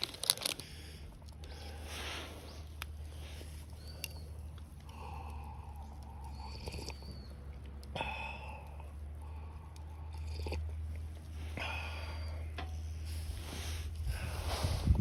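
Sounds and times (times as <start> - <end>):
person chewing food: 0.0 - 12.3
steady low hum: 0.6 - 15.0.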